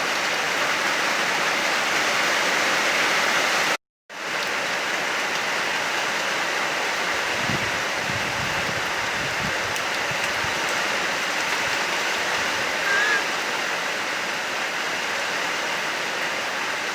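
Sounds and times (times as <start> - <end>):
heavy rain: 0.0 - 16.9.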